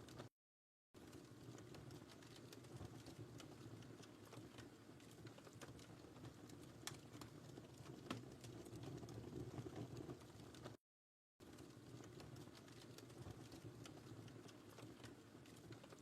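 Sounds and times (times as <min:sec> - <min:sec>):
fire snaps and pops: 0:01.0 - 0:10.8, 0:11.4 - 0:16.0
low rumble of flames: 0:01.0 - 0:10.8, 0:11.4 - 0:16.0.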